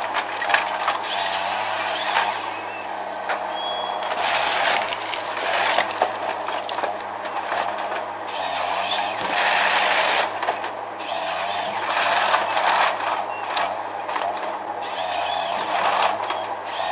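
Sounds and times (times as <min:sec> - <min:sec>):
machinery engine hum: 0:00.0 - 0:16.7.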